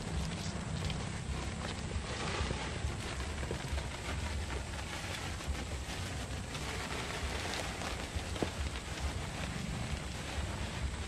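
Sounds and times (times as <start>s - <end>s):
light rain falling: 0.0s - 11.0s
wind buffeting microphone: 0.0s - 11.0s.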